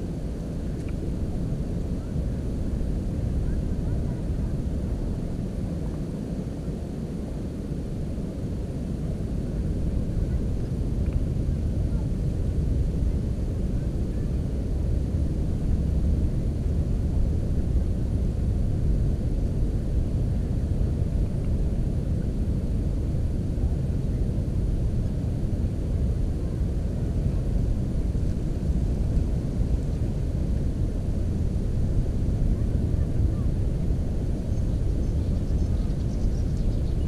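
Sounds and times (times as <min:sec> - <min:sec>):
steady low rumbling: 0:00.0 - 0:37.0.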